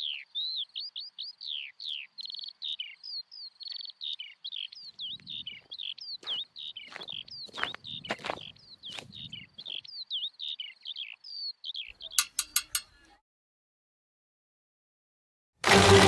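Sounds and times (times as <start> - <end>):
bird chirping: 0.0 - 13.2.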